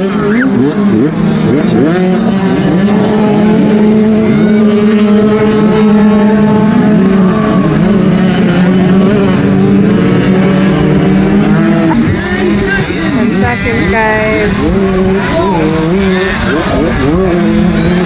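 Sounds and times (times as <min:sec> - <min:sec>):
dirt bike engines racing: 0:00.0 - 0:18.0.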